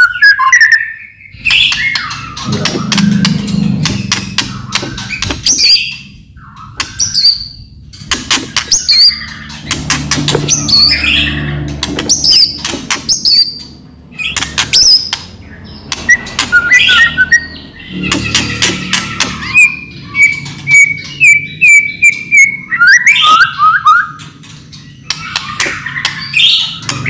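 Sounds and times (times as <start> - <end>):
bird song clicking and whistling: 0.0 - 27.0.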